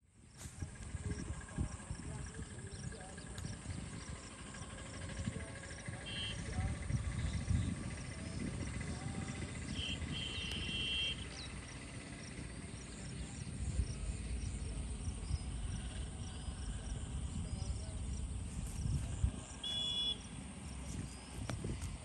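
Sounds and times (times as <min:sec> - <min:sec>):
insects chirping and trilling: 0:00.1 - 0:22.0.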